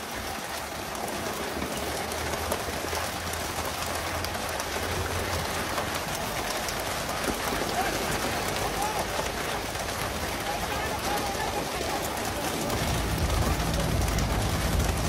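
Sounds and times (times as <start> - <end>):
water spray splashing: 0.0 - 15.0.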